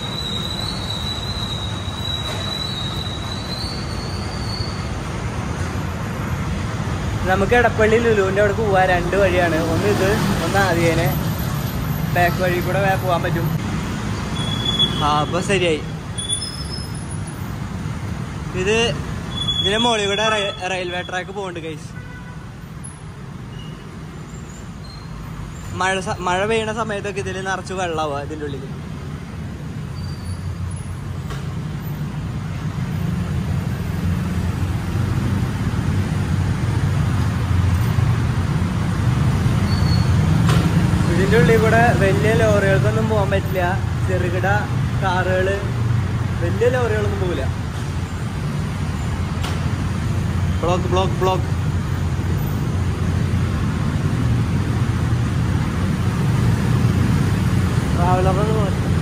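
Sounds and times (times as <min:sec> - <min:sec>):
scooter and motorcycle engines rumbling: 0:00.0 - 0:21.6, 0:23.0 - 0:59.0.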